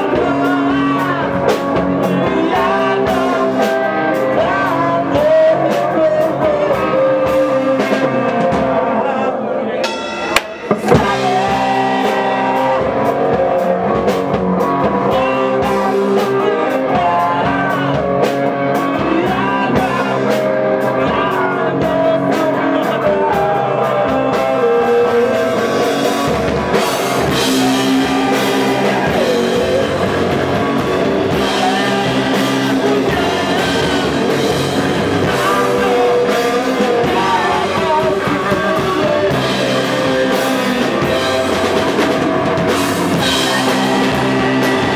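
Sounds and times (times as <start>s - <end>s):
drum kit: 0.0s - 9.2s, 9.8s - 44.9s
bass guitar: 0.0s - 44.9s
electric guitar: 0.0s - 44.9s
person singing: 0.0s - 44.9s.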